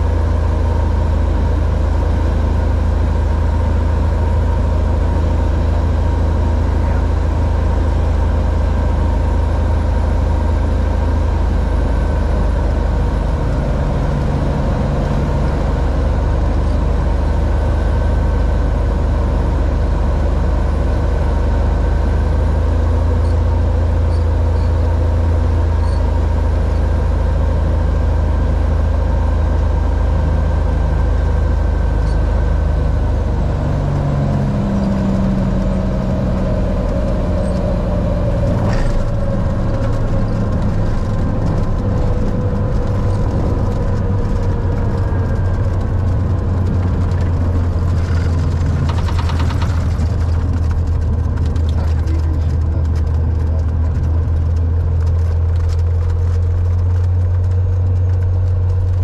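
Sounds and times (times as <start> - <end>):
airplane engine droning in cabin: 0.0 - 59.0.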